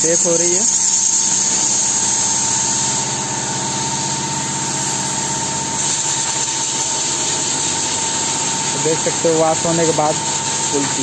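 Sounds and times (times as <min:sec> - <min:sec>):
motor hum with high whine: 0:00.0 - 0:11.0.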